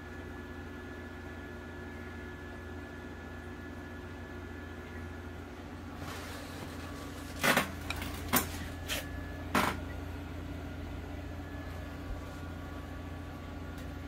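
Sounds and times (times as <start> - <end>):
aquarium pumps humming: 0.0 - 14.0.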